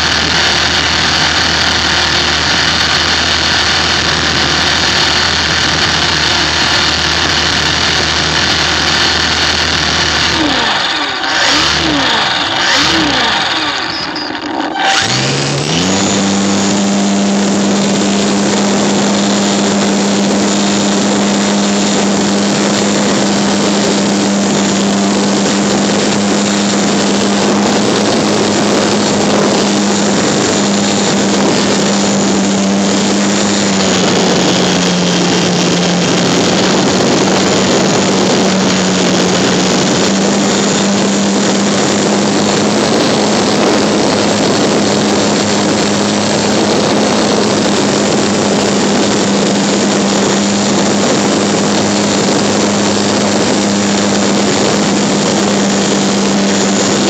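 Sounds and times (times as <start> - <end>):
electric motor whine: 0.0 - 57.0
wind and propeller rush: 0.0 - 57.0.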